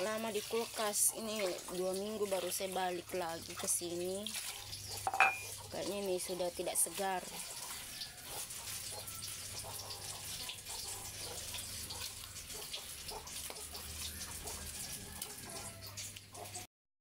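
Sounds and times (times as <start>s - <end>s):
water splashing in pot: 0.0s - 16.7s.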